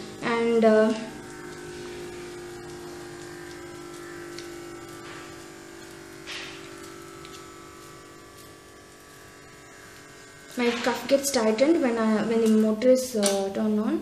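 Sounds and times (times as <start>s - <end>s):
electric air pump buzzing: 0.0s - 14.0s.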